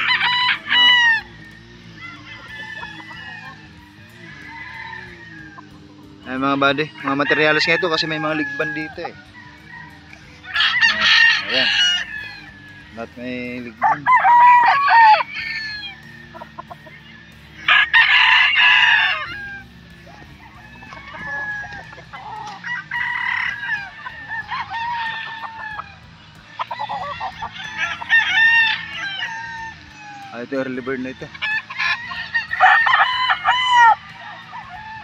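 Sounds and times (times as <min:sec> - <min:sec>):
roosters crowing: 0:00.0 - 0:35.0.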